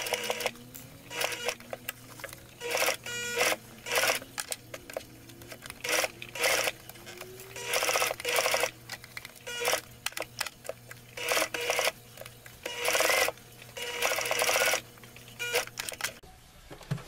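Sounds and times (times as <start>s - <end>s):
low hum: 0.0s - 16.2s.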